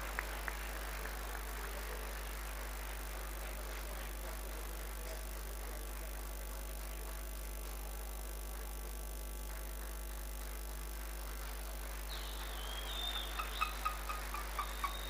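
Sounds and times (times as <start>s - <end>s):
low mains hum: 0.0s - 15.0s.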